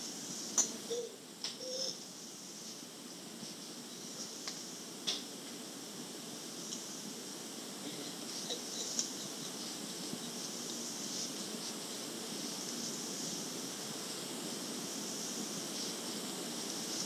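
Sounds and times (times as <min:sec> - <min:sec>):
cassette tape hiss: 0:00.0 - 0:17.0.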